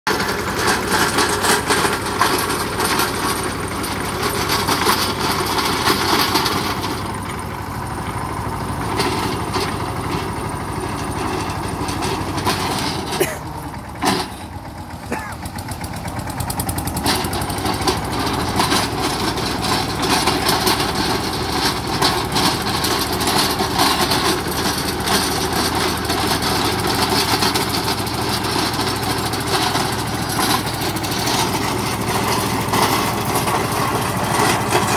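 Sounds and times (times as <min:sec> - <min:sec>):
rotavator blades churning soil: 0:00.1 - 0:34.9
tractor engine under load: 0:00.1 - 0:34.9.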